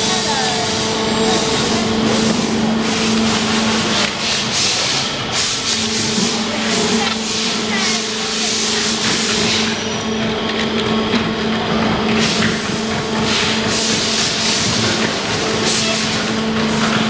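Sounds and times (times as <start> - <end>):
electric motor humming: 0.0 - 14.3.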